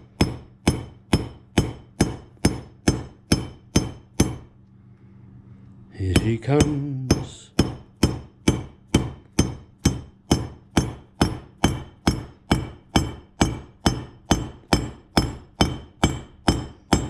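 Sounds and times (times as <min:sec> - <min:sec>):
hammer striking metal: 0:00.0 - 0:04.5, 0:06.1 - 0:17.0.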